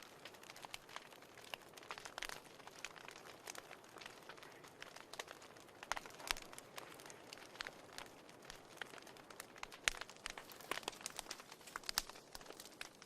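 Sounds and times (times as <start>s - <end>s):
sharp pops and snaps: 0.0s - 13.0s
wood fire crackling: 0.0s - 13.0s.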